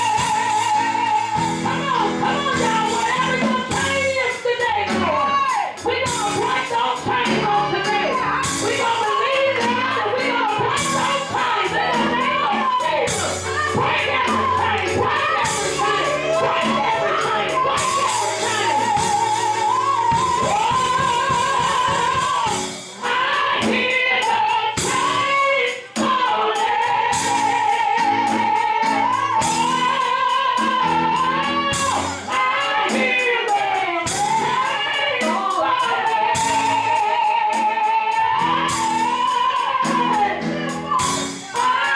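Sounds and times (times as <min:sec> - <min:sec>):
bass: 0:00.0 - 0:41.9
steady drum beat: 0:00.0 - 0:41.9
voices singing: 0:00.0 - 0:41.9.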